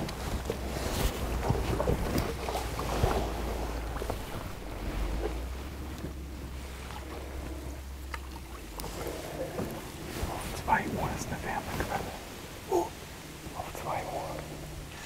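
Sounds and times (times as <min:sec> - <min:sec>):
oar strokes through water: 0:00.0 - 0:15.0
wind rumble on microphone: 0:00.0 - 0:15.0.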